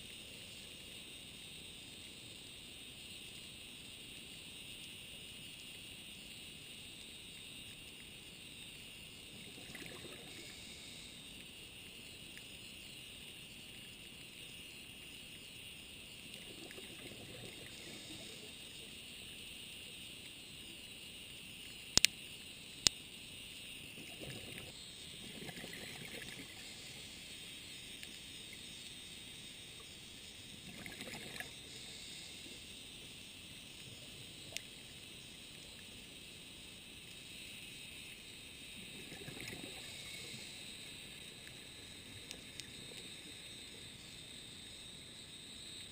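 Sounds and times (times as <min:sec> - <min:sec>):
faint crackling hiss: 0:00.0 - 0:45.9.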